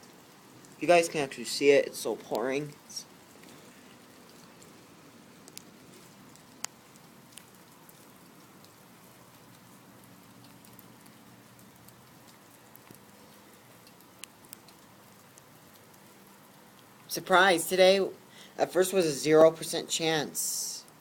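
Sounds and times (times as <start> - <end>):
heavy rain pouring: 0.0 - 21.0
raindrops ticking close by: 0.0 - 21.0.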